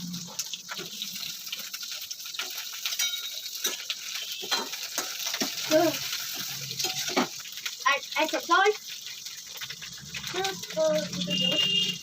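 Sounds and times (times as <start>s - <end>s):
okra sizzling in oil: 0.0s - 12.0s
spatula clicking and scraping: 0.4s - 7.8s, 8.8s - 11.8s.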